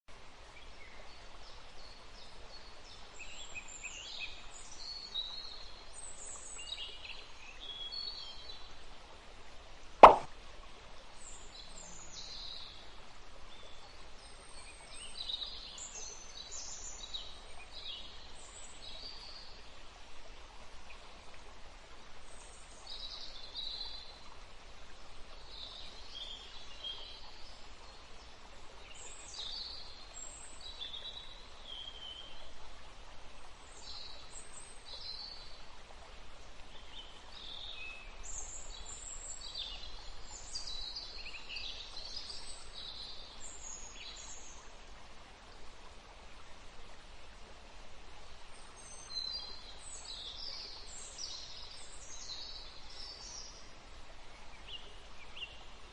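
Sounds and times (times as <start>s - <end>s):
steady background hiss: 0.1s - 55.9s.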